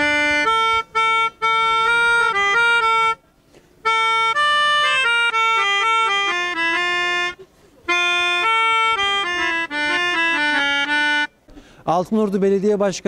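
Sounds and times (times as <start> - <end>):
melodica melody: 0.0 - 11.4.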